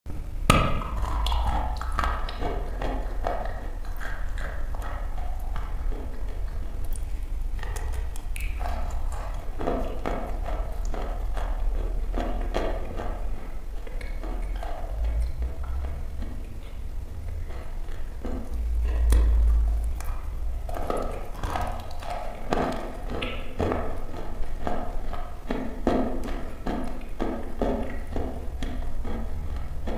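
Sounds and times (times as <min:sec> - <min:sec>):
low steady hum: 0:00.1 - 0:29.9
chalk crunching being chewed: 0:00.8 - 0:29.9.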